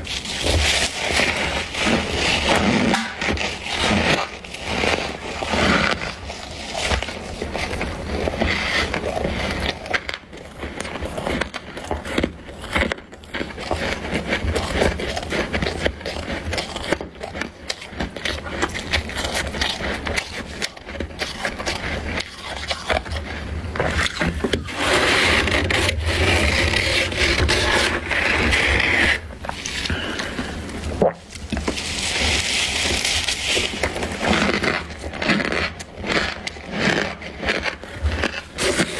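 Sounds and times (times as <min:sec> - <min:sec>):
freezer frost being scraped: 0:00.0 - 0:38.9.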